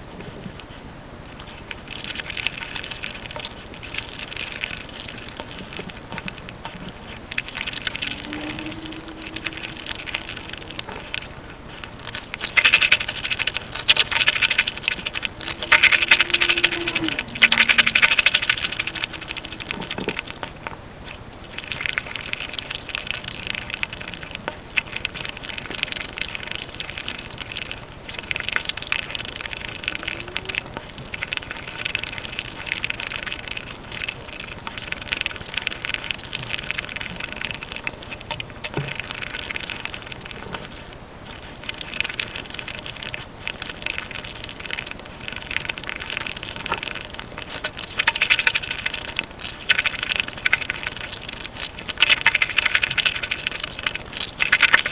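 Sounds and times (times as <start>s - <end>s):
sped-up wet chewing and smacking: 0.2s - 54.9s.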